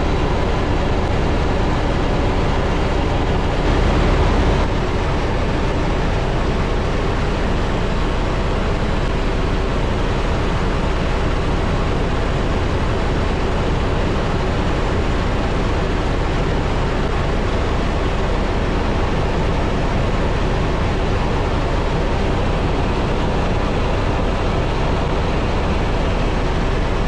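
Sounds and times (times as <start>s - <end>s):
helicopter cabin noise: 0.0s - 27.0s.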